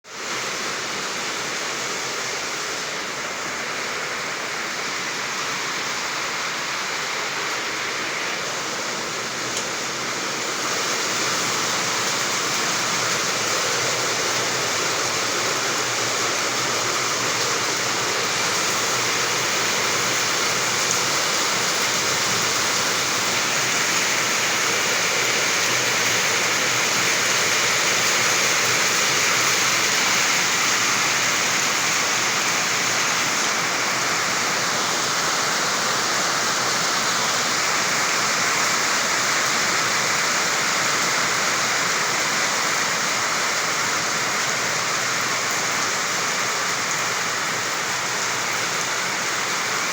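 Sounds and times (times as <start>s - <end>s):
running water rushing: 0.1s - 49.9s.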